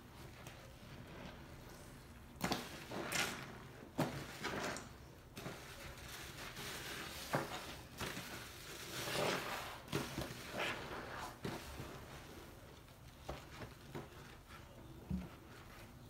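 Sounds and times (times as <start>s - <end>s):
wet sponge squishing: 0.0s - 16.0s.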